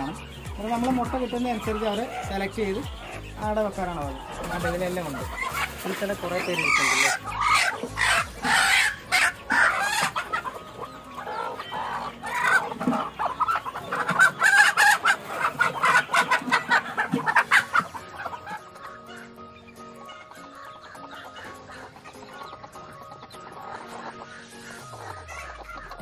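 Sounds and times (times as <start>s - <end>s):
hens clucking and squawking: 0.0s - 26.0s.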